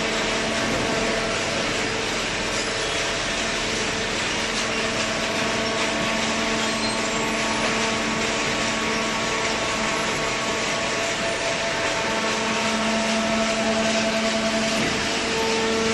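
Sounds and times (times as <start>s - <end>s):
hydraulic baler machine hum: 0.0s - 15.9s.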